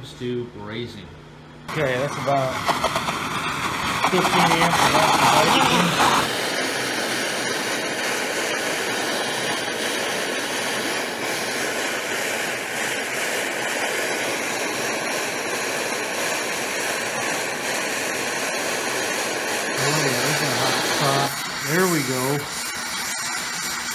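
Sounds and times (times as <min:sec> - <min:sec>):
torch flame hissing: 0:01.7 - 0:23.9.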